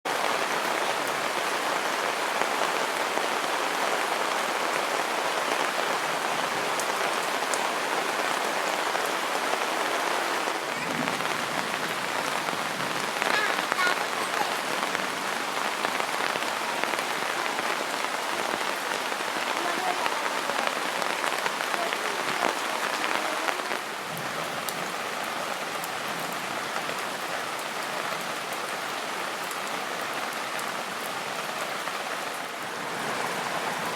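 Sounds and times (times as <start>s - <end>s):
steady rain pattering: 0.0s - 33.9s.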